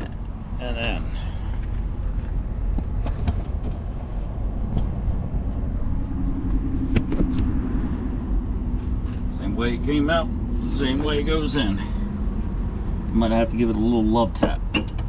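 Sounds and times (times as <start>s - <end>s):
steady hum: 0.0s - 15.0s
vehicle engine rumbling: 0.0s - 15.0s.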